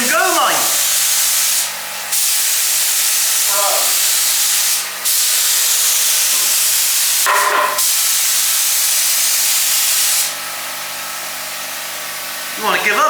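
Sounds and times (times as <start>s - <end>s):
paint spray gun hissing: 0.0s - 10.5s.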